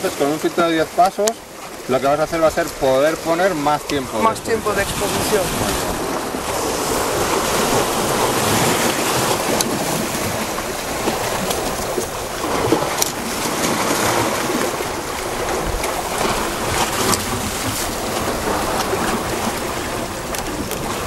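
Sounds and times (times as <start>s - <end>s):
waves breaking over rocks: 0.0s - 21.0s.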